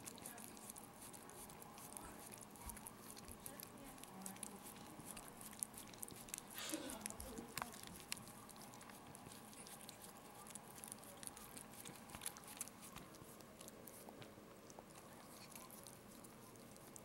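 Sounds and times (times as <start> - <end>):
dog licking mouth clicks: 0.0 - 17.0.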